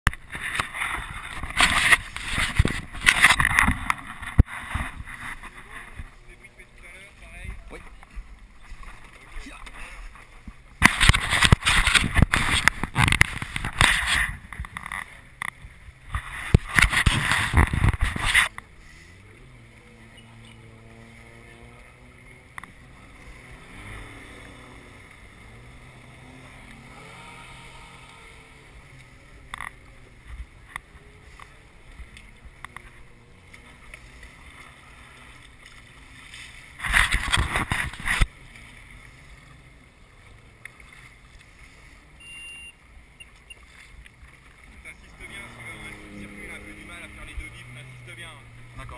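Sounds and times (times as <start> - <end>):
jet ski engine passing: 0.1 - 48.9.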